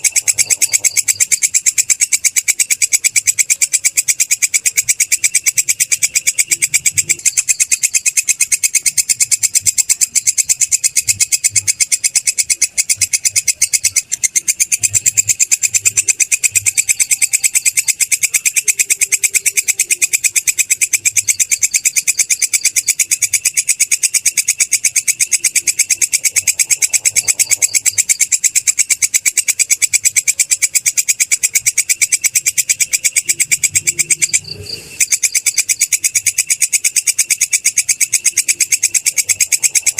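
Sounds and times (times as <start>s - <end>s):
katydid trilling: 0.0s - 39.9s.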